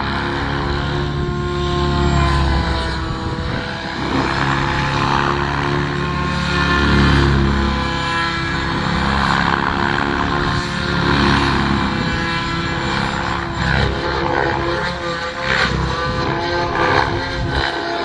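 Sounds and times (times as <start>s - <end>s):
model helicopter rotor whine: 0.0s - 18.0s.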